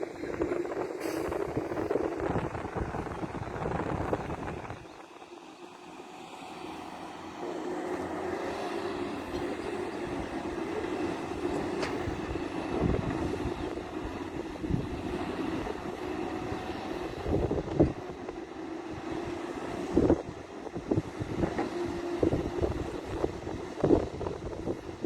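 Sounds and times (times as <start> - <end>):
diesel engine of digging machine: 0.0 - 25.0.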